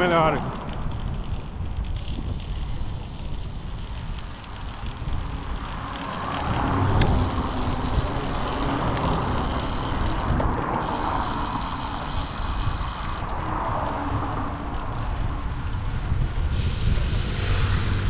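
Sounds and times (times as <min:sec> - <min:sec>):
bicycle road rumble: 0:00.0 - 0:18.0
wind rushing on microphone: 0:00.0 - 0:18.0.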